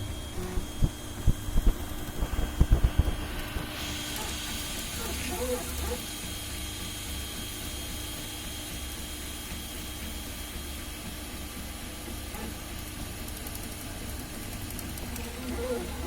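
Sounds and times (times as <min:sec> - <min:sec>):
fan hiss: 0:00.0 - 0:16.0
printer motors whirring: 0:00.0 - 0:16.0.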